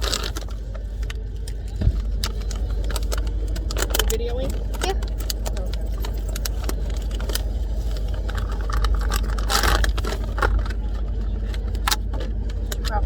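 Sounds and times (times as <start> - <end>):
plastic packaging clicks and crinkles: 0.0 - 13.0
steady low hum: 0.0 - 13.0.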